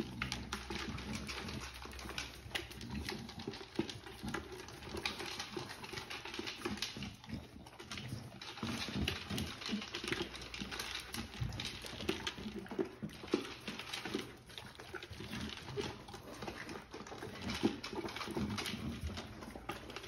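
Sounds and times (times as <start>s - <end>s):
dog chewing: 0.0s - 20.0s
food rattling in plastic bowl: 0.0s - 20.0s.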